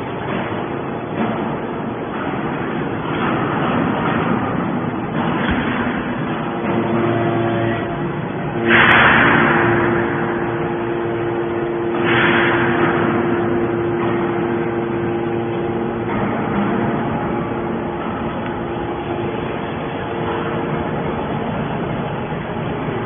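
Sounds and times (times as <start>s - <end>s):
steady machine tone: 0.0s - 23.0s.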